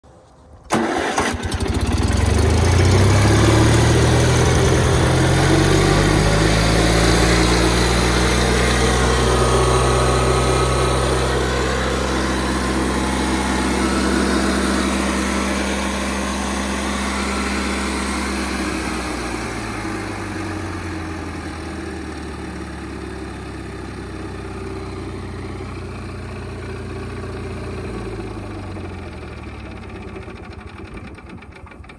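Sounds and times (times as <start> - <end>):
stump grinder engine running: 0.7 - 31.9.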